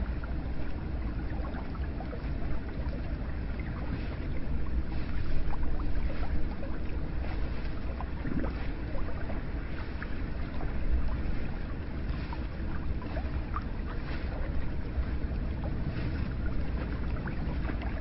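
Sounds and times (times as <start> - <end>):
water drips and splashes: 0.0 - 18.0.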